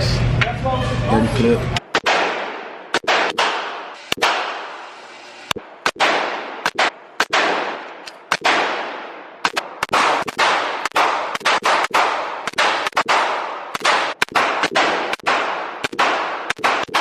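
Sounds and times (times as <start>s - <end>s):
gunshots with ringing echo: 1.9s - 4.9s, 5.6s - 17.0s.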